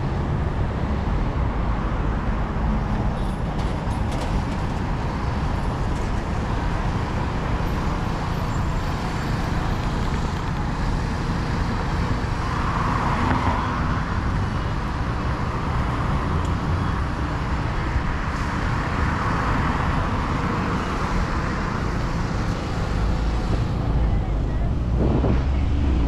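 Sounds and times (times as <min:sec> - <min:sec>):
city traffic road noise: 0:00.0 - 0:26.0
vehicles passing: 0:00.0 - 0:26.0.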